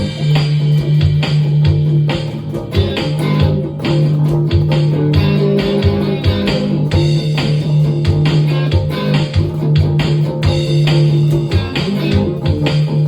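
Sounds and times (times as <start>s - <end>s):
bass guitar low note: 0.0s - 13.0s
electric guitar playing: 0.0s - 13.0s
steady drum beat: 0.0s - 13.0s.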